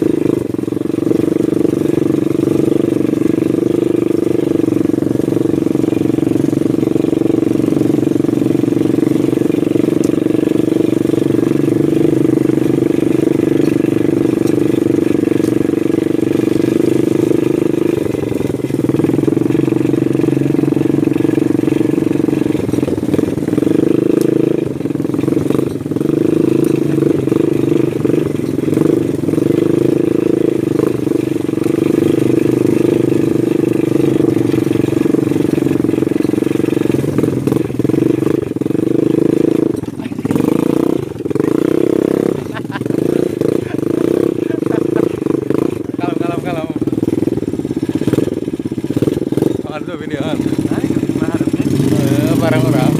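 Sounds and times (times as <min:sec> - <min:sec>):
small atv engine running: 0:00.0 - 0:52.9.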